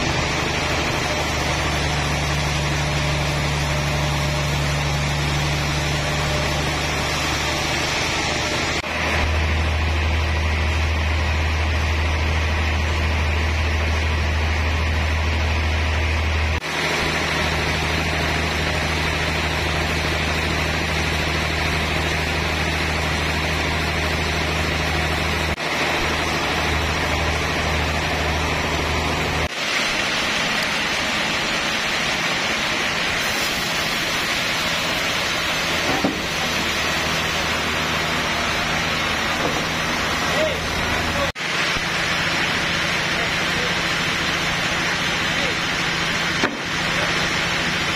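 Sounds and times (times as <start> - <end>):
sawmill machinery humming: 0.0 - 47.9.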